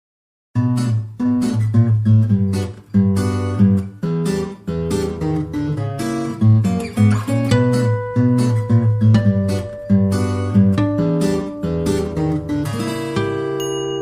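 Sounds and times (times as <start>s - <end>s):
acoustic guitar strumming chords: 0.6s - 14.0s.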